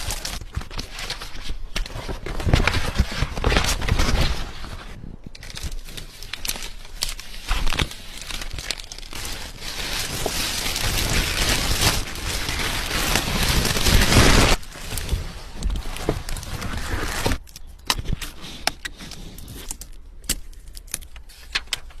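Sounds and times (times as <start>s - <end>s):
packaging crinkling: 0.0s - 22.0s.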